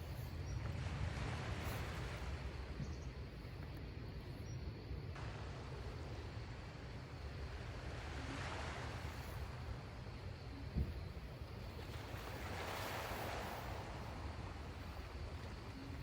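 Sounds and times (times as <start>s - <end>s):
sea waves washing: 0.0s - 4.3s, 5.0s - 16.0s
wind on microphone: 0.0s - 16.0s.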